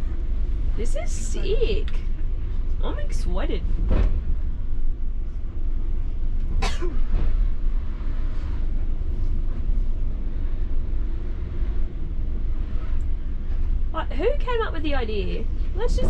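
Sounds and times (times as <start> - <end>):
coach diesel engine rumbling: 0.0 - 16.0.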